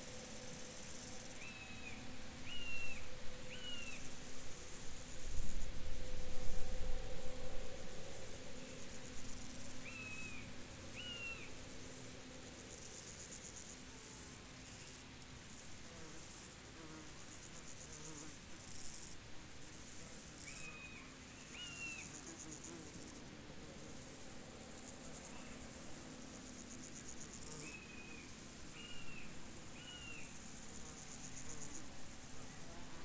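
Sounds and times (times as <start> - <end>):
insects chirping in trills: 0.0 - 18.0, 18.6 - 23.2, 24.0 - 33.0.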